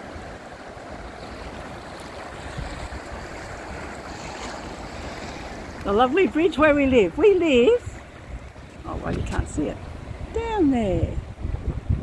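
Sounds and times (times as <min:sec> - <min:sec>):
water washing along a hull: 0:00.0 - 0:12.0
wind rumbling on microphone: 0:00.0 - 0:12.0.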